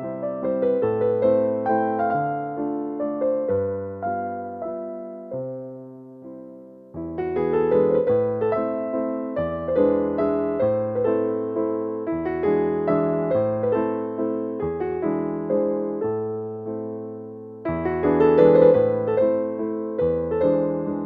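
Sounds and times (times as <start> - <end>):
soft piano music: 0.0 - 21.0.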